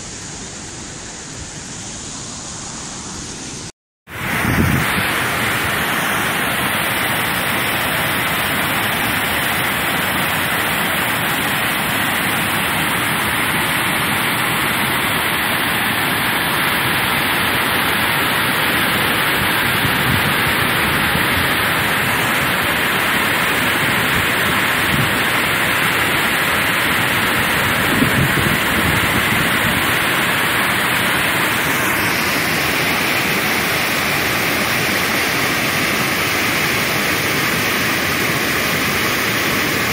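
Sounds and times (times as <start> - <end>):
heavy rain with rushing water: 0.0 - 39.9.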